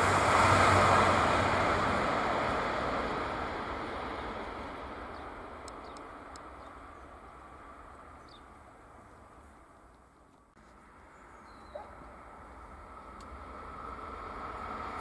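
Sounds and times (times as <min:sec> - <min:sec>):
train running noise: 0:00.0 - 0:09.8, 0:10.8 - 0:15.0.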